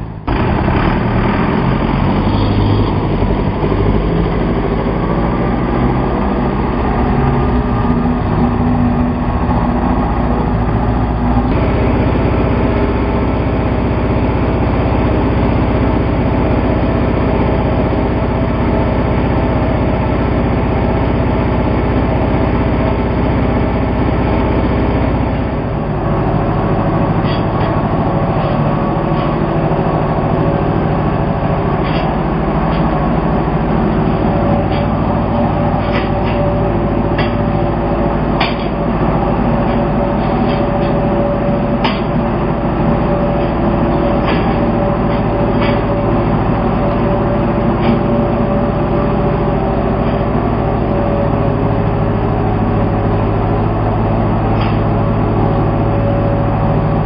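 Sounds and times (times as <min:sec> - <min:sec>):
mixer wagon engine hum: 0:00.0 - 0:57.0.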